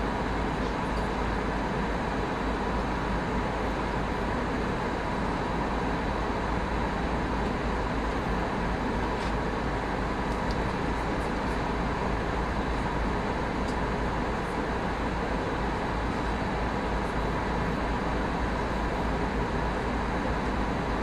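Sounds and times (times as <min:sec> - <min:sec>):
airliner cabin engine rush: 0:00.0 - 0:21.0.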